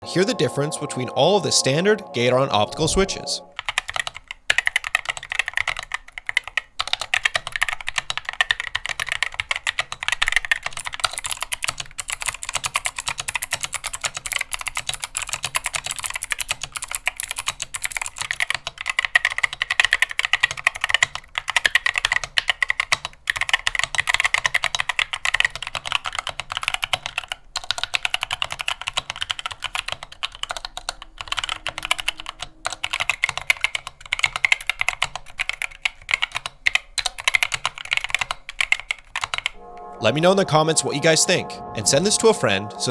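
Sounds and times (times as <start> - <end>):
fast typing on mechanical keyboard: 3.7 - 31.8, 32.8 - 39.4.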